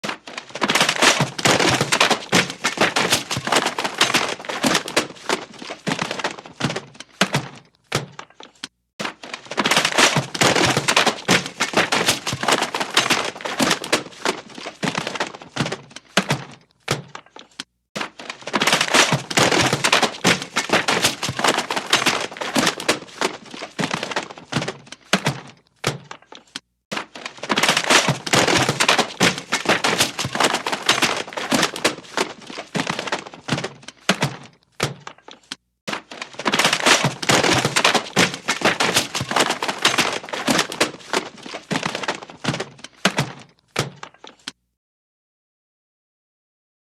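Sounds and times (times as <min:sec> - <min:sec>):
things crashing and breaking: 0:00.0 - 0:44.5.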